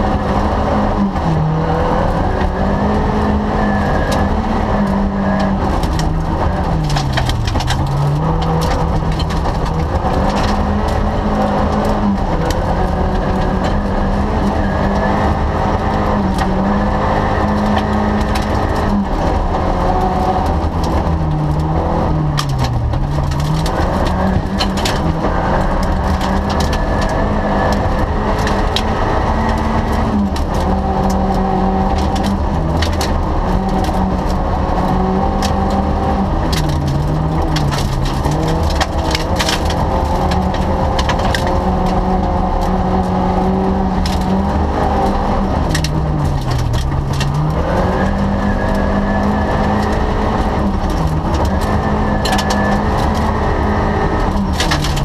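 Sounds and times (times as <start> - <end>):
rally car engine revving: 0.0 - 55.0
gravel clattering against underbody: 4.1 - 15.0, 15.7 - 55.0.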